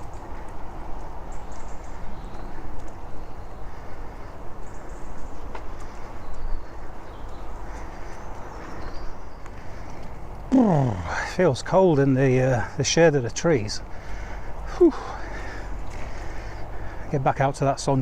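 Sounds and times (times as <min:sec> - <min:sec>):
bicycle ride rumble: 0:00.0 - 0:18.0
small birds chirping: 0:00.0 - 0:18.0.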